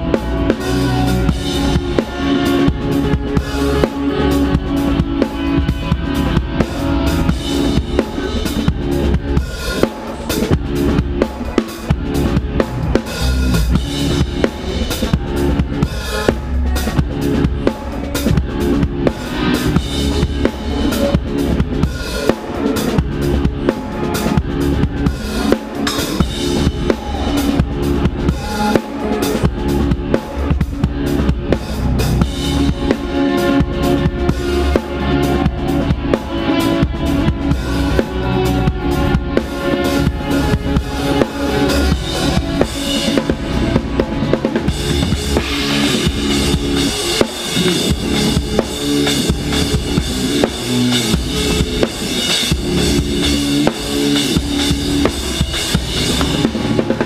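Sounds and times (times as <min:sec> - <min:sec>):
rock band playing loudly: 0:00.0 - 0:57.0
rock drum kit: 0:00.0 - 0:57.0.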